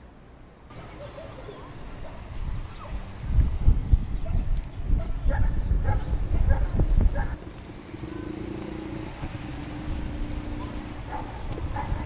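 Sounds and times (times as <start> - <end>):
low rumbling wind gusts: 0.5 - 12.0
distant motor humming: 0.7 - 12.0.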